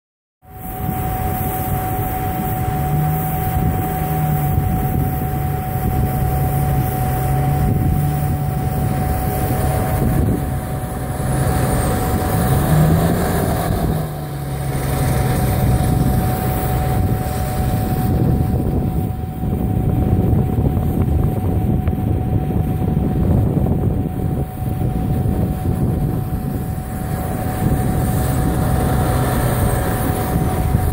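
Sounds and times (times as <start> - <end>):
diesel engine under load: 0.4 - 30.9
snow gun fan hum: 0.5 - 30.9.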